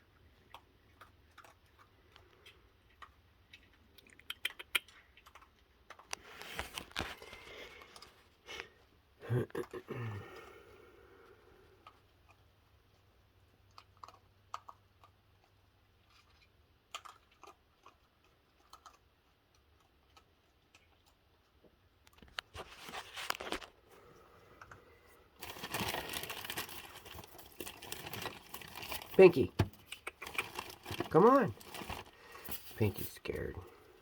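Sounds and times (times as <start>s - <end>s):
cookies crinkling and crunching: 0.0s - 34.0s.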